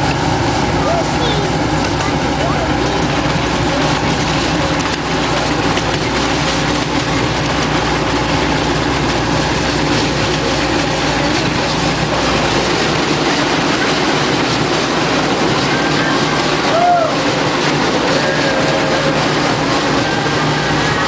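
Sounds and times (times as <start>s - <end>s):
train wheels rattling on rails: 0.0s - 21.0s.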